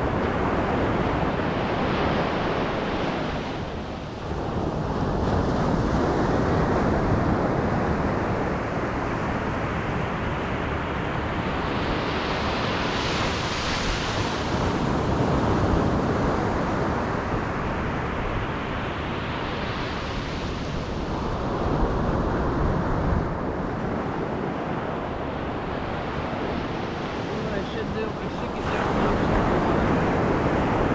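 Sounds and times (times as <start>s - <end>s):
waves breaking on beach: 0.0s - 30.9s
wind buffeting microphone: 0.0s - 30.9s.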